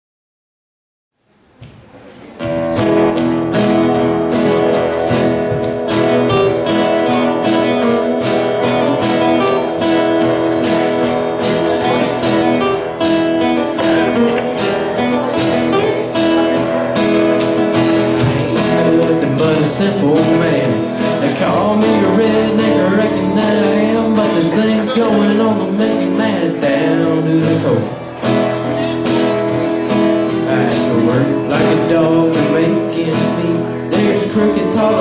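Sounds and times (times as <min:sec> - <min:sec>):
strummed acoustic guitar: 0:02.3 - 0:35.0
upright bass: 0:02.3 - 0:35.0.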